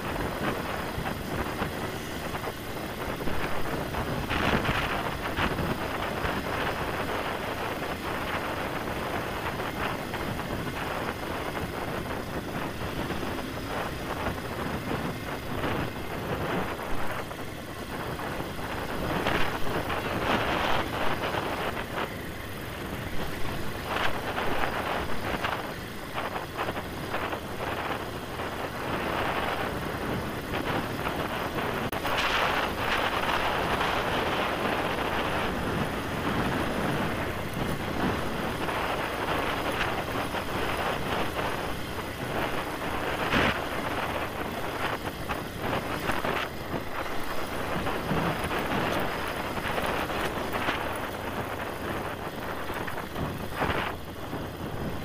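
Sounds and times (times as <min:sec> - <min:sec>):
motorcycle running: 0:00.0 - 0:55.0
tyres on dirt: 0:00.0 - 0:55.0
wind on microphone: 0:00.0 - 0:55.0.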